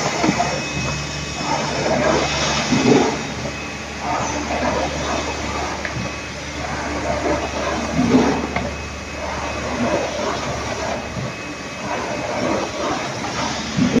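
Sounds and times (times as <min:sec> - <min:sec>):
low hum: 0:00.0 - 0:14.0
machine running: 0:00.0 - 0:14.0.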